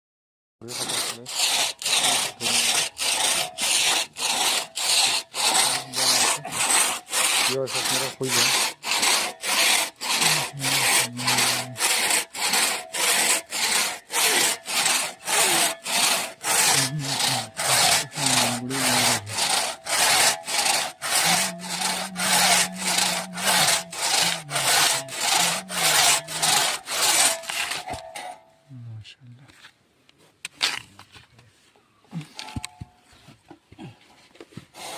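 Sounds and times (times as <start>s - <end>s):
hand saw cutting wood: 0.6s - 28.5s, 34.5s - 34.9s.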